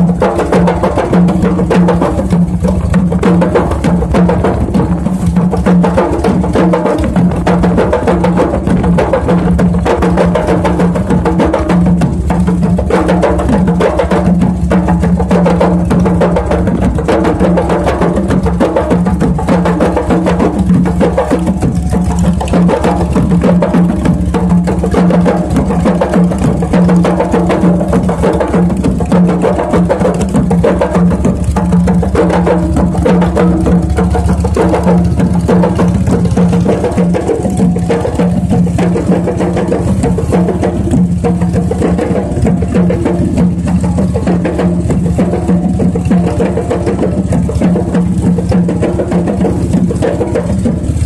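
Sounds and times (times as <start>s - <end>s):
hand drums ensemble: 0.0s - 51.0s.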